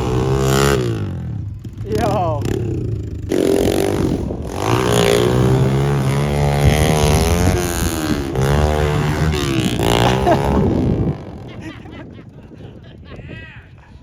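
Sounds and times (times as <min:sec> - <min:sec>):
small motorbike engine revving: 0:00.0 - 0:11.9.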